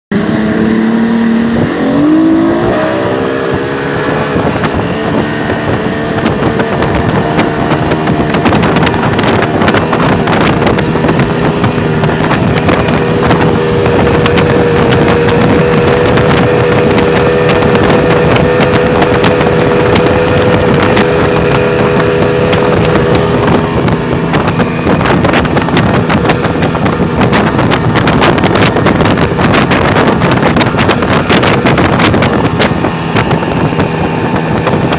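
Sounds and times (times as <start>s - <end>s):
boat engine running: 0.1s - 34.9s
wind buffeting microphone: 0.1s - 34.9s.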